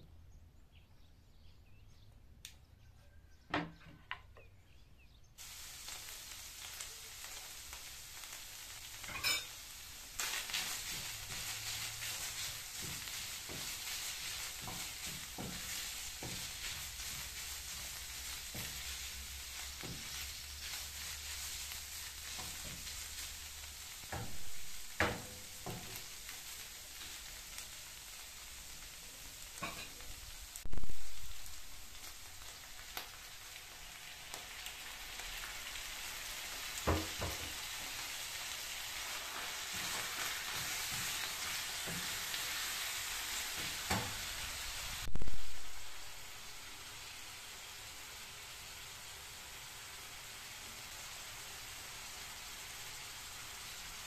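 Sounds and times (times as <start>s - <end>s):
meat sizzling in a frying pan: 5.4s - 54.0s.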